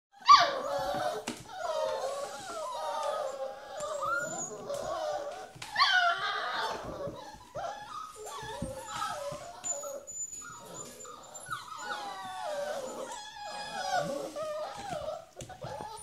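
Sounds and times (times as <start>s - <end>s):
puppies whimpering and whining: 0.2s - 16.0s
puppy yelping: 0.2s - 16.0s.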